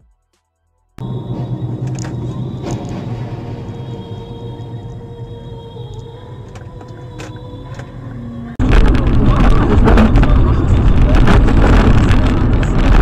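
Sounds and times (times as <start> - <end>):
car road and wind noise: 1.0 - 13.0.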